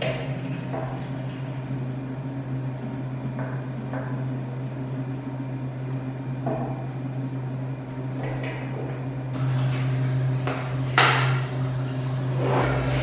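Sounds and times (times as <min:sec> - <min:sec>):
electric machine hum: 0:00.0 - 0:13.0.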